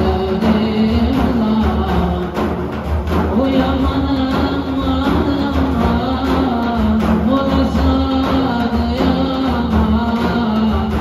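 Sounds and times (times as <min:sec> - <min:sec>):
frame drums beating by hand: 0:00.0 - 0:11.0.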